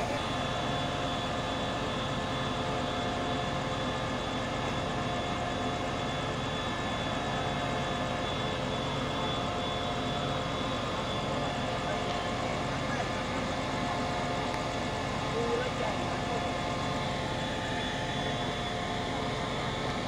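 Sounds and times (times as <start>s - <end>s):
locomotive engine idling: 0.0s - 20.0s
steady whining tones: 0.0s - 20.0s.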